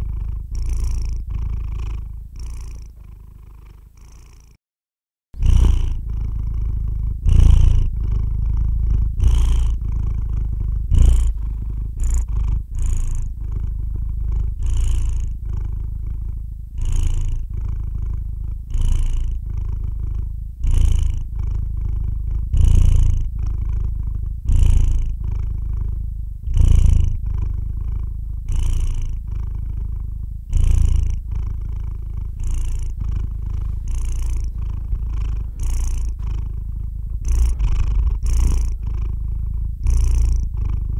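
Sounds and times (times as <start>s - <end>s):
cat purring: 0.0s - 4.6s, 5.4s - 40.9s.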